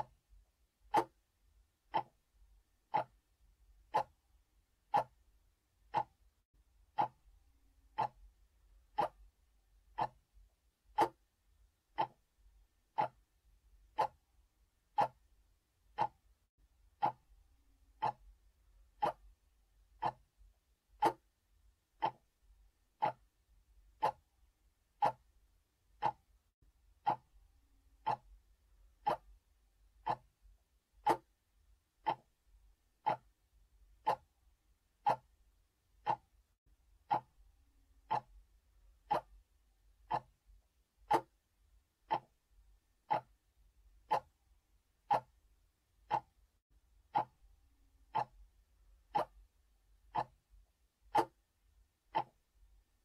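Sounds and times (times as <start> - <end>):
clock ticking: 0.0 - 53.0.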